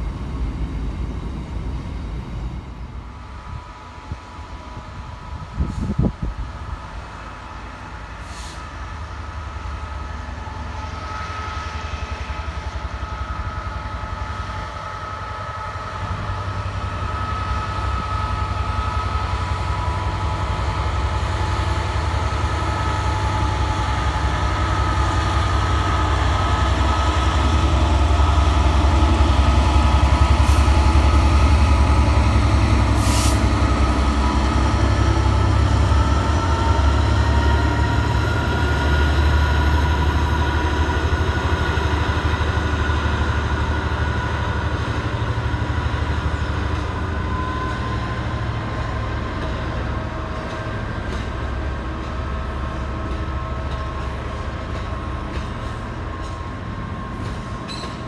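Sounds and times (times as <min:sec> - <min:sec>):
diesel locomotive engine throb: 0:00.0 - 0:58.0.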